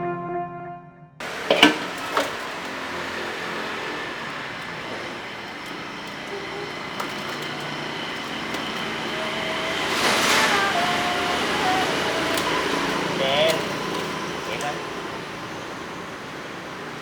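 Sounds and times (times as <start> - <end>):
rushing hiss: 1.2 - 17.0.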